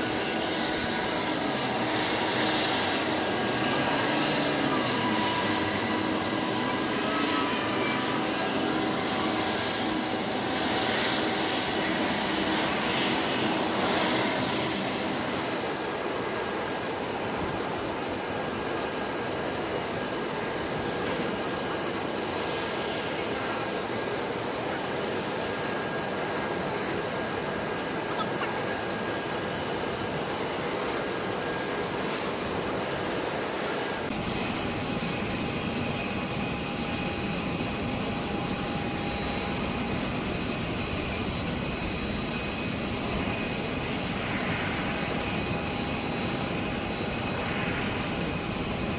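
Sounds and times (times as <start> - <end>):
jet engines with high whine: 0.0 - 48.9.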